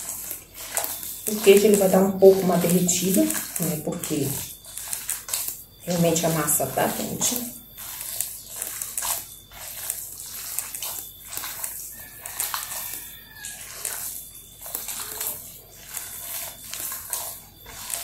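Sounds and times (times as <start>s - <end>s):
hand squelching sticky dough: 0.0s - 18.0s.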